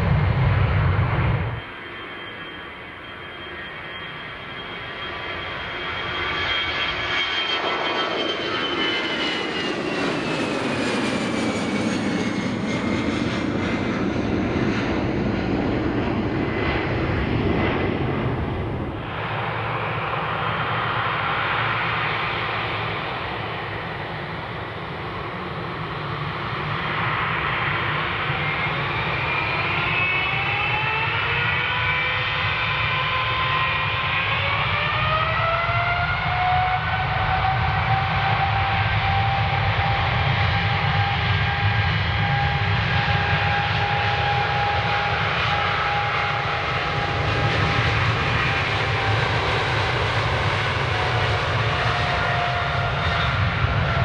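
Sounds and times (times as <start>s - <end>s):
jet engines roaring past: 0.0s - 54.0s
jet engines whining: 0.0s - 54.0s.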